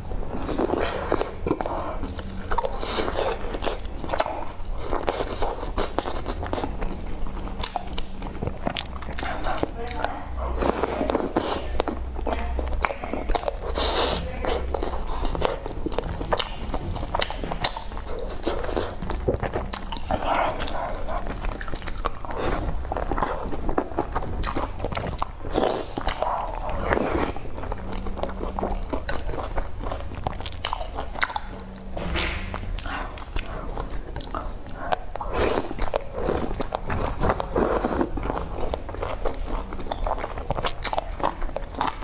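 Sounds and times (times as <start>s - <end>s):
slurping: 0.0s - 9.7s, 13.3s - 31.9s, 32.6s - 42.0s
wet chewing: 0.0s - 42.0s.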